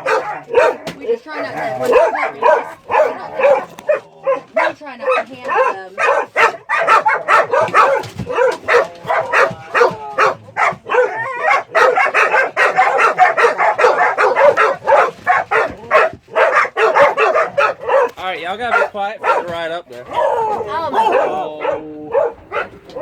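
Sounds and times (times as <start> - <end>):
many dogs barking: 0.0 - 23.0.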